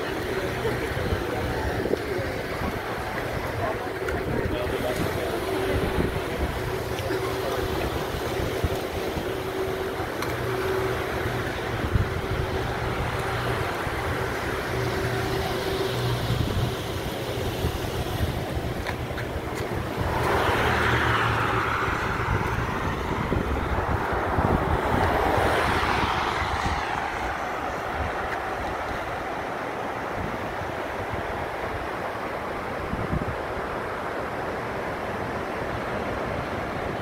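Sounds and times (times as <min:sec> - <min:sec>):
car passing: 0:00.0 - 0:32.3
low engine hum: 0:00.0 - 0:37.0.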